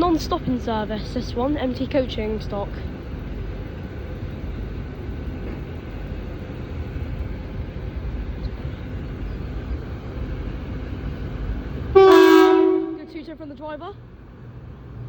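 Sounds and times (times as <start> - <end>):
diesel train engines rumbling: 0.0 - 15.0
train wheels on rails: 0.0 - 15.0.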